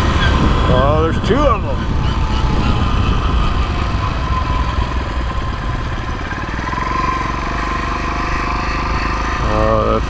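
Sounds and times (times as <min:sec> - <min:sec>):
small motorbike engine running: 0:00.0 - 0:10.0.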